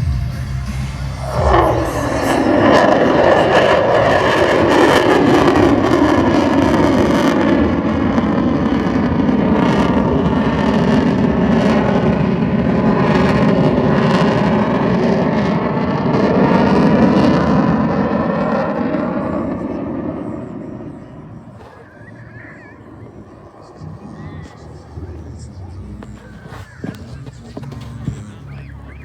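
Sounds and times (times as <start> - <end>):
jet aircraft engine: 0.0 - 29.0.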